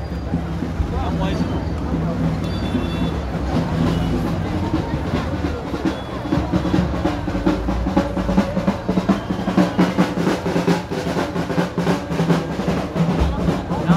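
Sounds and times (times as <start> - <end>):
street crowd noise: 0.0 - 13.9
procession drumming: 0.4 - 13.9.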